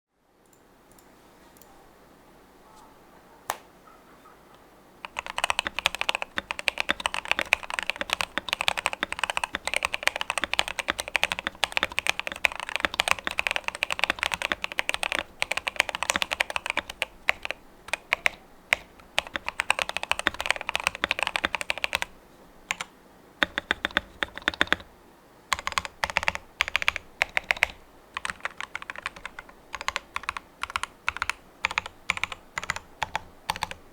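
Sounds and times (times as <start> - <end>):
mechanical keyboard typing: 5.0 - 22.1, 22.7 - 24.9, 25.5 - 33.8.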